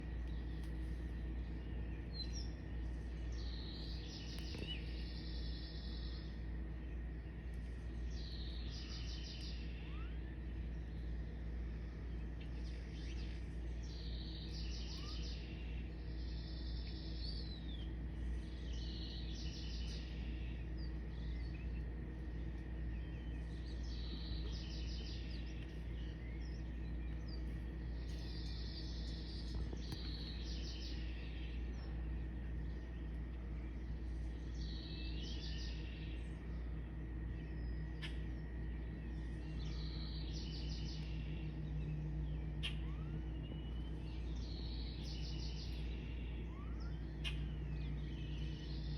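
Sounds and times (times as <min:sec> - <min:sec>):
bird chirps: 0:00.0 - 0:48.9
songbird singing: 0:00.0 - 0:48.9
steady low rumble: 0:00.0 - 0:48.9.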